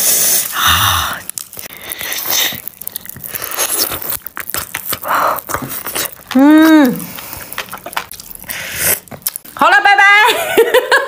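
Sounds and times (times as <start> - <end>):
person eating jelly: 0.0 - 9.6
popping candy crackling: 0.0 - 9.9.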